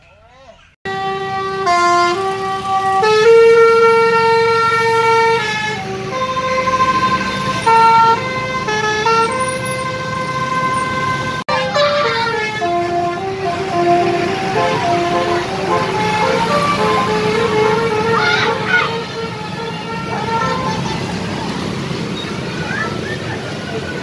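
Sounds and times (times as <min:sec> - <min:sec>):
musical air horn playing tune: 0:00.9 - 0:21.6.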